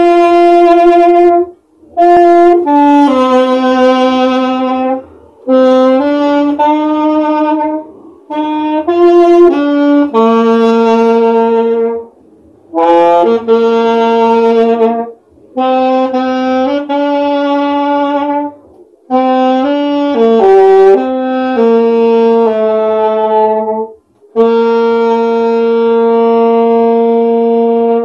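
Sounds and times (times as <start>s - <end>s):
solo saxophone melody: 0.0s - 28.0s.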